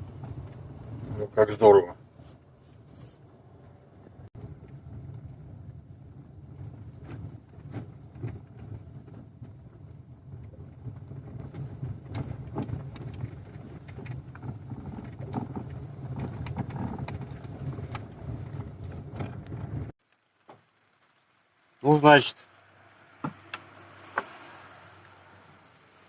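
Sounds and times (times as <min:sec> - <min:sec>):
car road noise from cabin: 0:00.0 - 0:20.0, 0:21.9 - 0:26.0.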